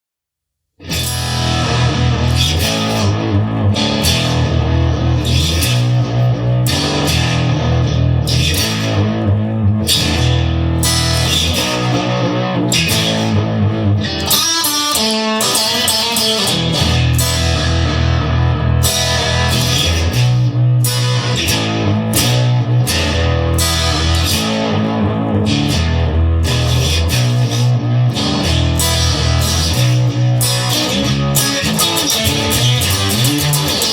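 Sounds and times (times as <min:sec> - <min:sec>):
repeating bass line: 0:00.8 - 0:14.5, 0:16.5 - 0:33.9
electric guitar: 0:00.8 - 0:33.9.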